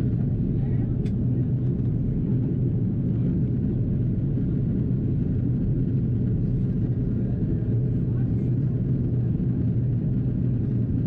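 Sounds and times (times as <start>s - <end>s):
airplane cabin rumble: 0.0s - 11.0s
constant low hum: 0.0s - 11.0s.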